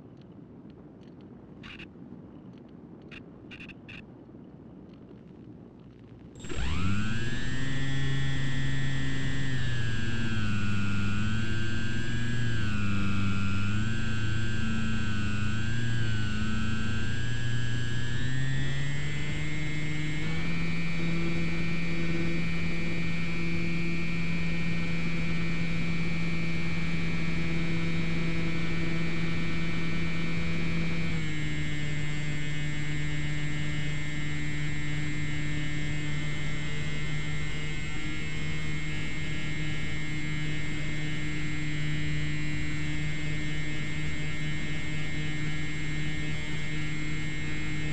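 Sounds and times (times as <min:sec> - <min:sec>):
model plane motor and propeller humming: 0:06.4 - 0:47.9.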